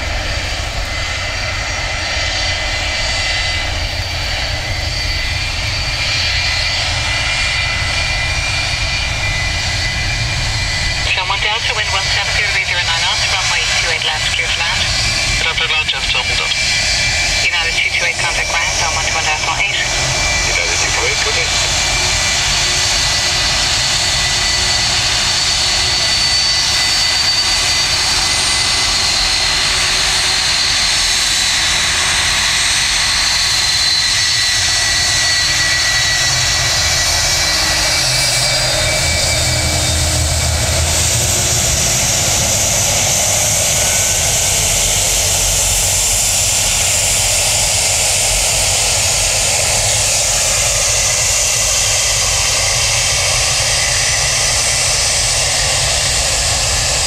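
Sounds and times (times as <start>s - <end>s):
jet engines hissing and whining: 0.0s - 57.0s.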